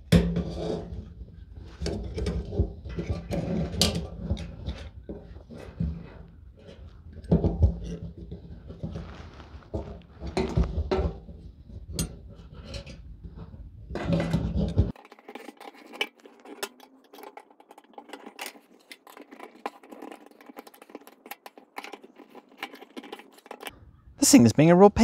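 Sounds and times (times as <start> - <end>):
metallic clicks and scrapes: 0.2 - 23.8.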